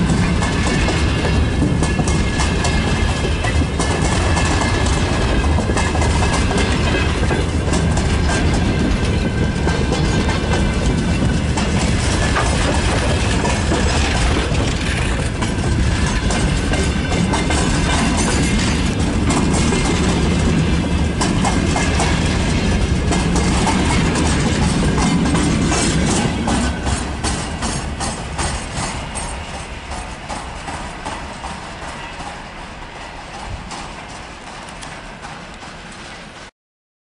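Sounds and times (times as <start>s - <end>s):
train wheels clattering over rail joints: 0.0s - 36.5s.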